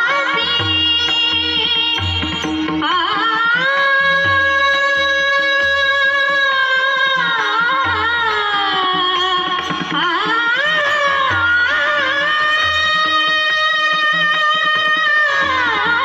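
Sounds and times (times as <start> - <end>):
drum accompaniment: 0.0 - 16.0
woman singing in a high voice: 0.0 - 16.0.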